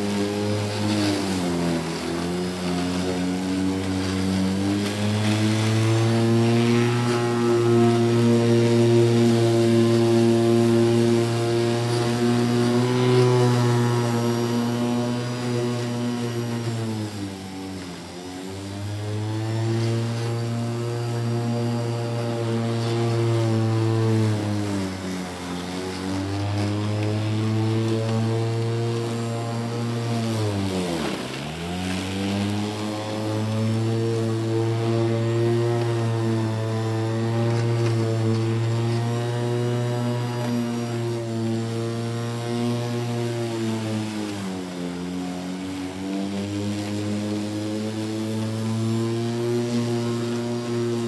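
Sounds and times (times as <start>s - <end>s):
lawnmower engine running: 0.0s - 51.0s.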